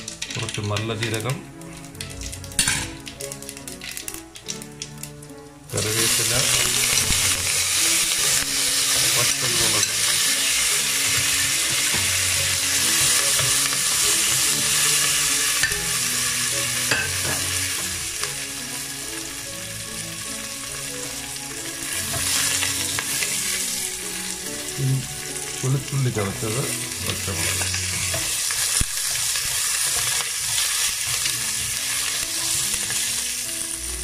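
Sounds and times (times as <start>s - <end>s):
spices sizzling in hot oil: 0.0s - 34.0s.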